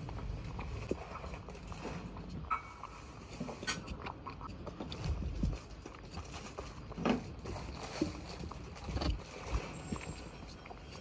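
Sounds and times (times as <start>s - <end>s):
cat chewing wet food: 0.0s - 11.0s.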